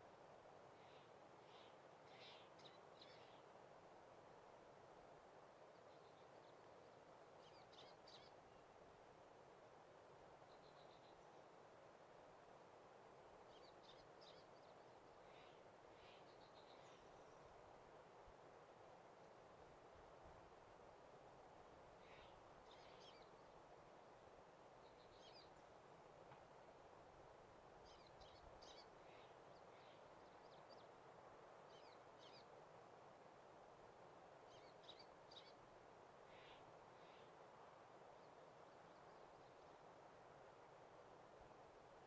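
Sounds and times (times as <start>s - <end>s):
soft steady hiss: 0.0s - 42.0s.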